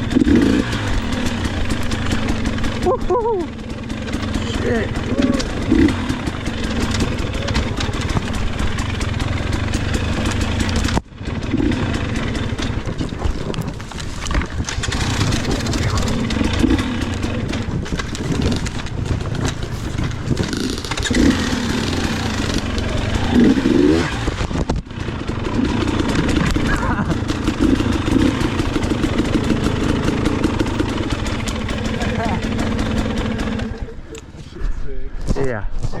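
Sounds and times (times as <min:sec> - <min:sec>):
dirt bike engine revving: 0:00.0 - 0:34.4.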